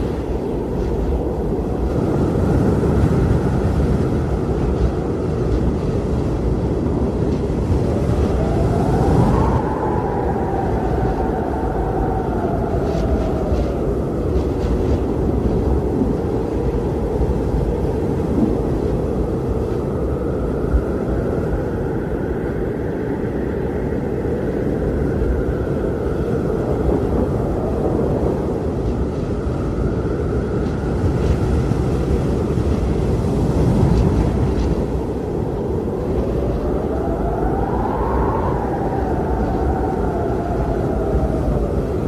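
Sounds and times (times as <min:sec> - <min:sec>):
faint wind howl: 0:00.0 - 0:42.0
strong wind rumbling: 0:00.0 - 0:42.0.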